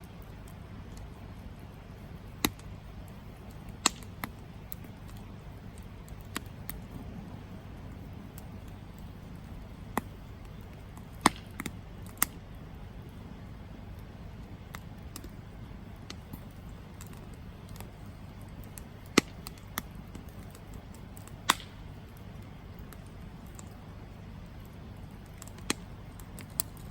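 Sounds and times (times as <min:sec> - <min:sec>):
campfire low rumble: 0:00.0 - 0:26.9
fire crackles and pops: 0:00.0 - 0:26.9.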